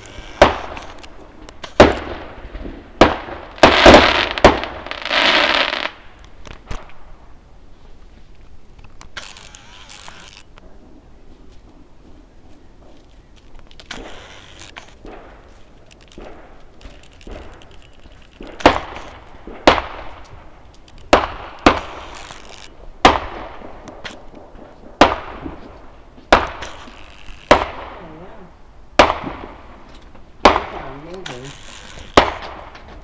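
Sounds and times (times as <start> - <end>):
fireworks exploding: 0.0 - 7.4, 8.9 - 33.0.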